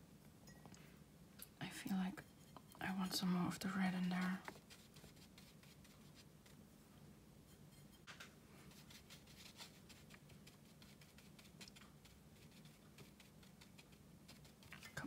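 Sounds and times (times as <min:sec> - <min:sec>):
wet brush dabbing on paper: 0:01.8 - 0:06.8, 0:07.4 - 0:15.0.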